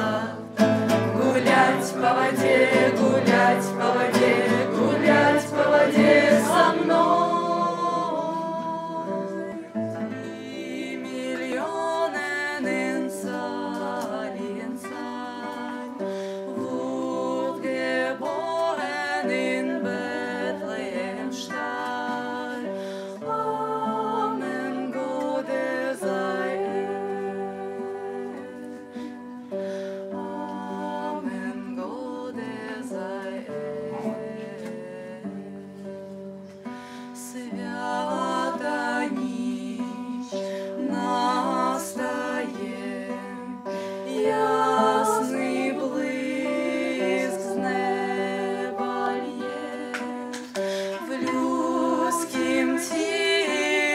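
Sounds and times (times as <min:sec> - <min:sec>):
acoustic guitar playing: 0:00.0 - 0:53.9.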